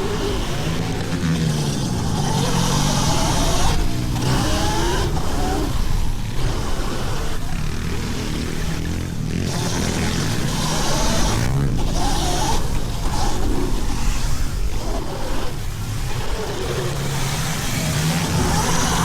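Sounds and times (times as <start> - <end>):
pit bikes revving: 0.0 - 19.0.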